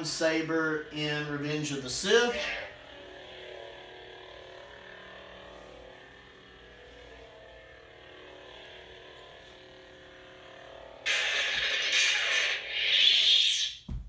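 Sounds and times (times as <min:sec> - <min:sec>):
electronic humming drone: 0:00.0 - 0:14.0.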